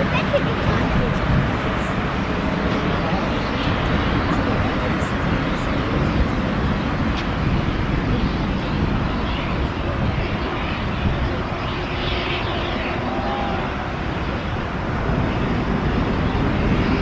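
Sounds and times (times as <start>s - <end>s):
jet plane landing: 0.0s - 17.0s.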